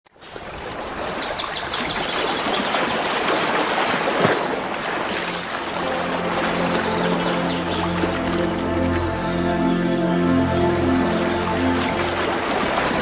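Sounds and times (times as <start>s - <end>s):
stream of running water: 0.1s - 13.0s.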